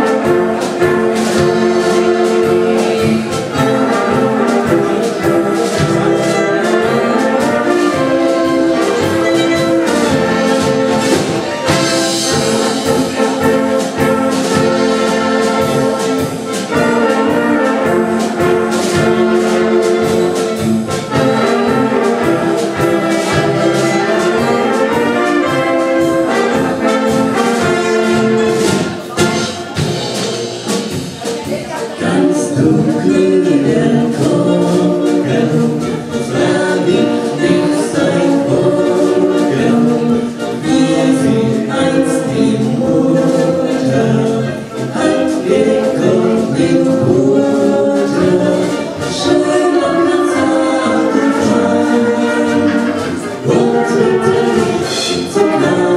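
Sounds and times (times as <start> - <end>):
brass band playing polka: 0.0 - 55.9.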